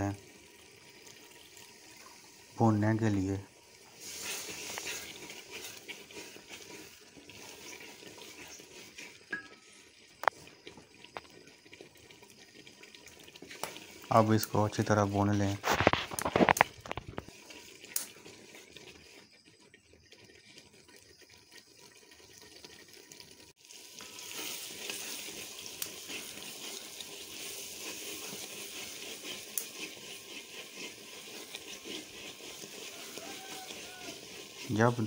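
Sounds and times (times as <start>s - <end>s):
dal sizzling in a pot: 0.0s - 35.0s.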